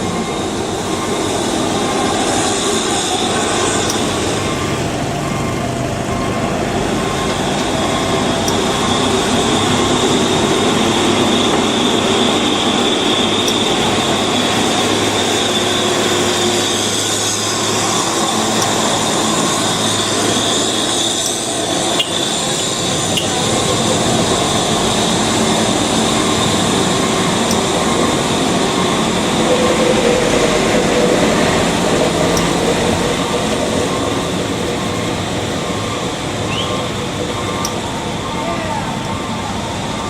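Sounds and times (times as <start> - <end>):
heavy truck traffic: 0.0 - 40.0
high steady whine: 0.0 - 40.0.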